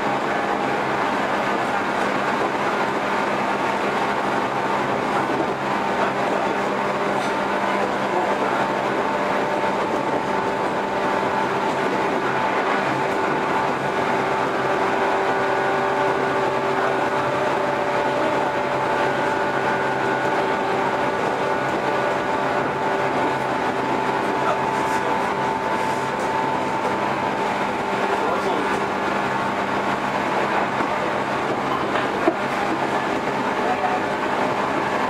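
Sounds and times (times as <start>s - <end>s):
electric train motor hum: 0.0s - 35.0s
wheels on rail: 0.0s - 35.0s.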